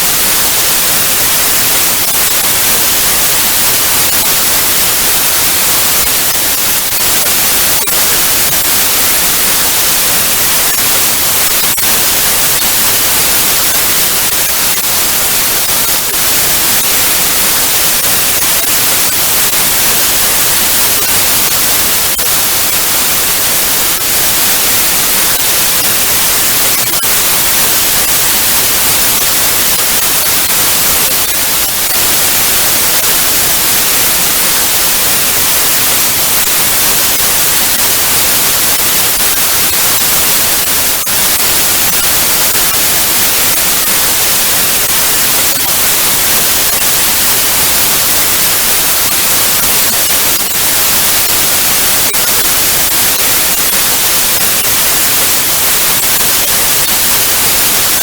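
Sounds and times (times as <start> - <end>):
tv static hiss: 0.0 - 58.0.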